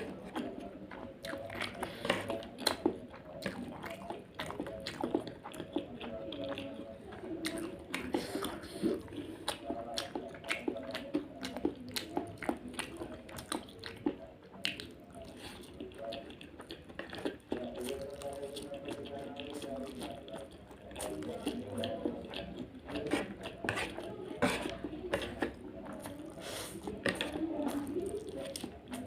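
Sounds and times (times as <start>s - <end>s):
chewing crispy noodles: 0.0s - 29.0s.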